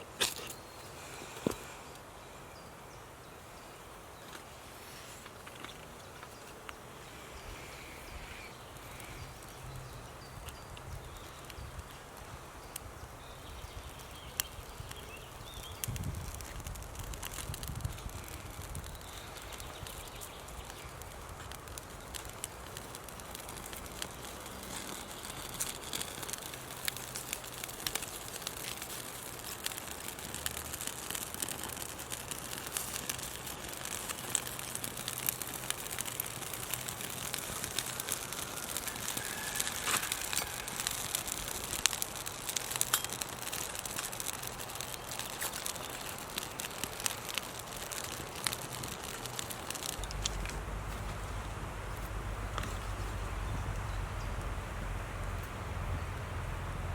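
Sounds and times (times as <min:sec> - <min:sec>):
campfire crackling: 0:00.0 - 0:56.9
fire pops and snaps: 0:00.1 - 0:00.7, 0:08.6 - 0:54.6.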